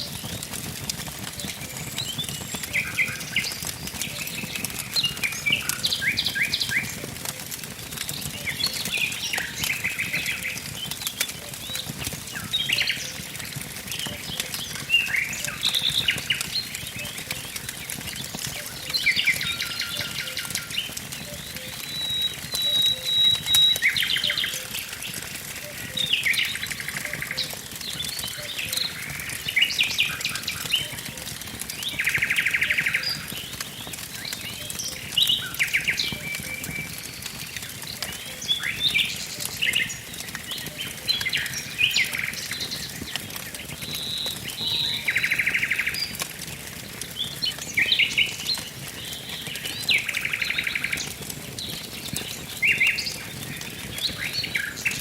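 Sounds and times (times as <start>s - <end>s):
wood fire crackling: 0.0s - 55.0s
songbirds singing: 1.1s - 55.0s.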